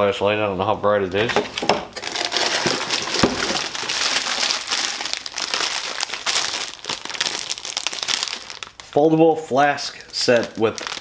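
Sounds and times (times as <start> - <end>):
plastic packaging crinkling: 1.4 - 11.0.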